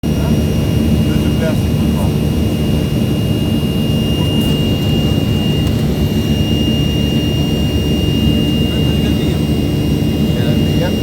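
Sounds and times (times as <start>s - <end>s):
high whine: 0.0s - 11.0s
jet engine rumble: 0.0s - 11.0s.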